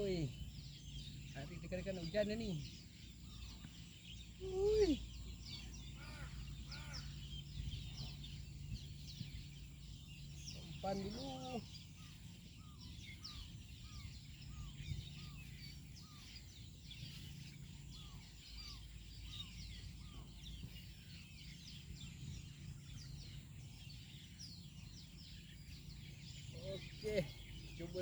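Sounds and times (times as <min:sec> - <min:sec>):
birds chirping: 0:00.0 - 0:28.0
faint low rumble: 0:00.0 - 0:28.0
low bird call: 0:00.0 - 0:28.0.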